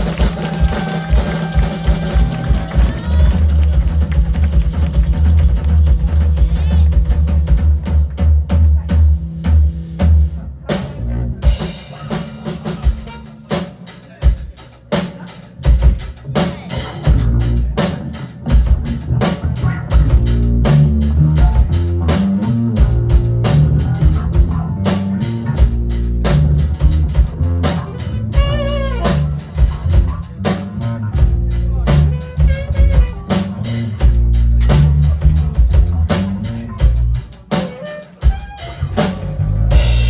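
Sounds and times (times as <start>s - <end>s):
funk band playing: 0.0s - 40.0s.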